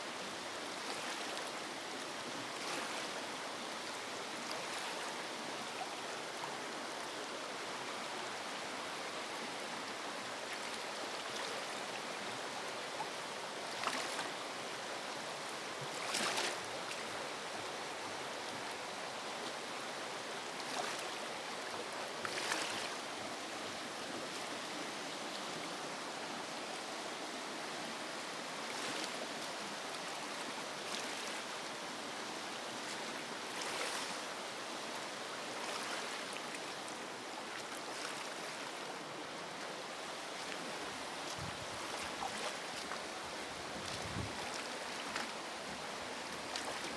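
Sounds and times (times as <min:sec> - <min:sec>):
river water rushing: 0:02.4 - 0:46.9.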